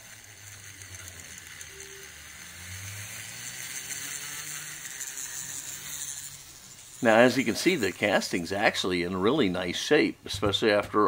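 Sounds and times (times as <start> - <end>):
wire wheel brushing metal: 0.0 - 9.4.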